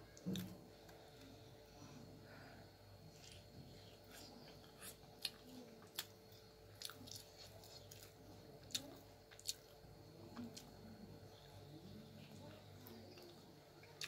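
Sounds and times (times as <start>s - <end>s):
faint chewing: 0.1s - 2.0s, 2.9s - 14.0s.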